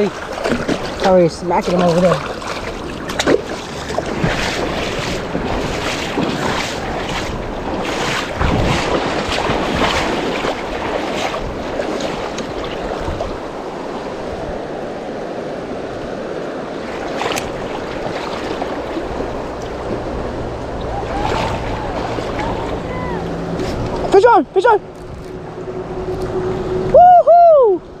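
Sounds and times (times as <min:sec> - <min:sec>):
rushing creek water: 0:00.0 - 0:27.0
low gust: 0:00.0 - 0:28.0
wind buffeting microphone: 0:00.0 - 0:28.0.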